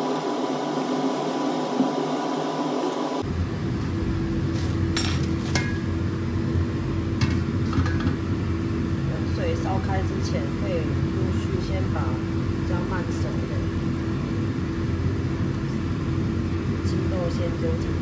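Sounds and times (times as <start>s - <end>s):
mechanical hum and hiss: 0.0s - 18.0s
deep hum with low tone: 3.2s - 18.0s.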